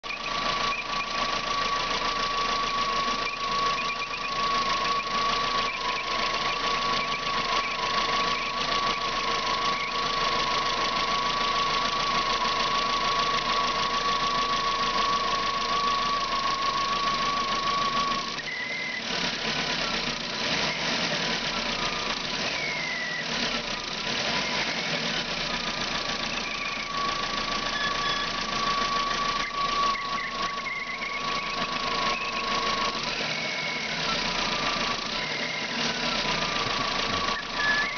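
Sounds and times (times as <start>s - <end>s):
high-pitched whistle: 0.0s - 19.1s, 26.3s - 37.9s
car engine idling: 0.0s - 37.9s.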